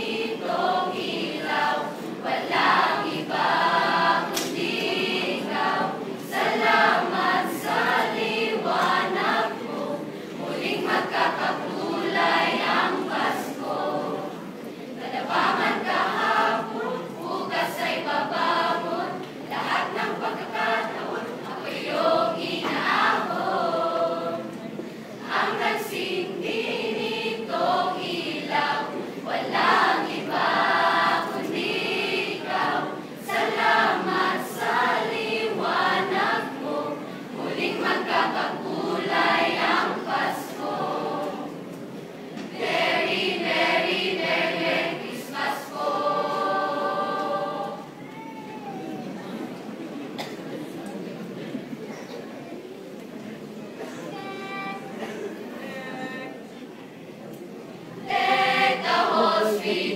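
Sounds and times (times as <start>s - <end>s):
mixed choir singing: 0.0s - 48.1s, 57.6s - 59.9s.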